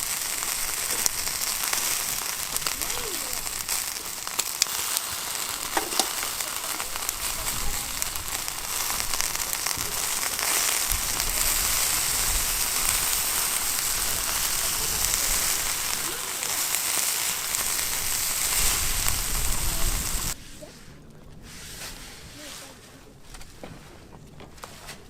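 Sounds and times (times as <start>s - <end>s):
food sizzling in a pan: 0.0s - 20.4s.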